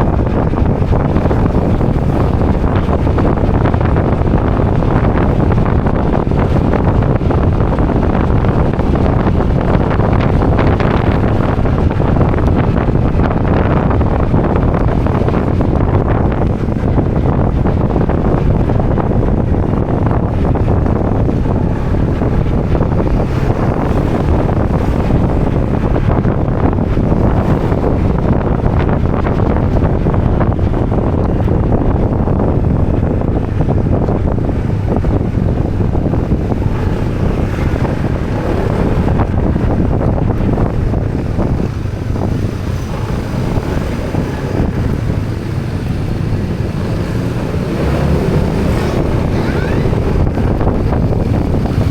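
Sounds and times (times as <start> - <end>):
motorbike engine running: 0.0 - 51.9
wind buffeting microphone: 0.0 - 51.9.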